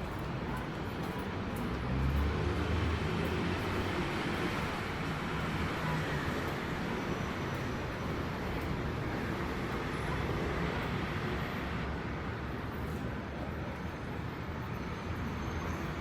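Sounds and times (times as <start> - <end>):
rumble of passing vehicles: 0.0 - 16.0.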